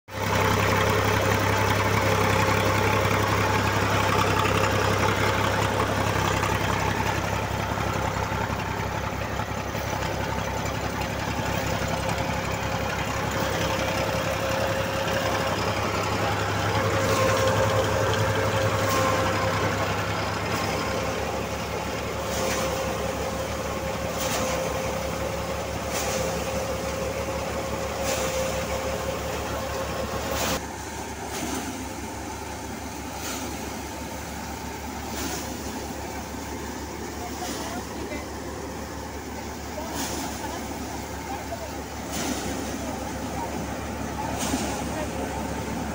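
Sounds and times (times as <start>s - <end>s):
diesel engine chugging: 0.0s - 45.9s.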